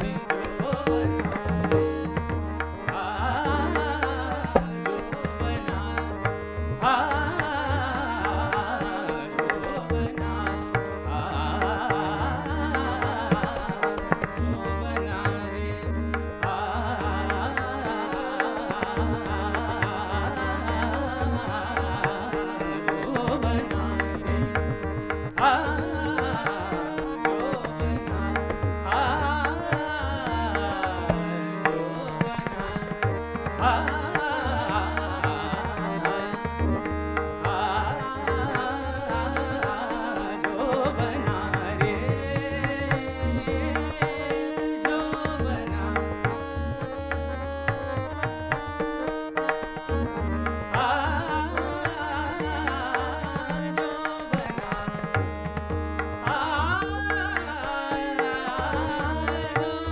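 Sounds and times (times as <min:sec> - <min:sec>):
harmonium: 0:00.0 - 0:59.9
person singing: 0:00.0 - 0:59.9
tanpura drone: 0:00.0 - 0:59.9.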